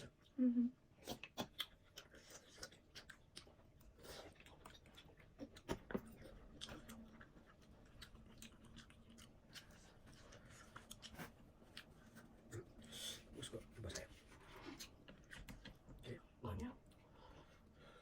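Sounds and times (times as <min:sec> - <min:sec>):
person chewing noodles: 0:00.0 - 0:15.8.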